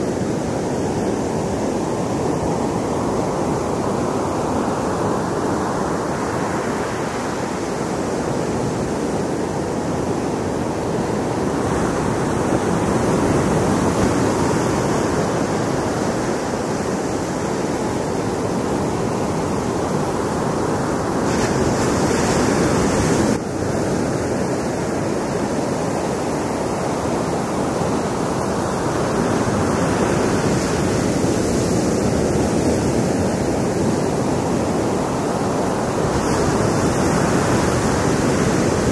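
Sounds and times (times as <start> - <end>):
ocean surf on beach: 0.0 - 38.9.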